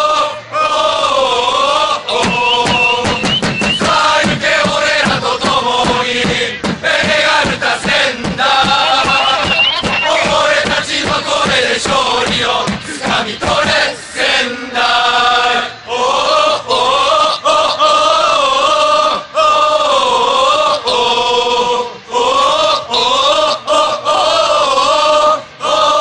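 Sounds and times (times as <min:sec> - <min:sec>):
football crowd chanting: 0:00.0 - 0:26.0.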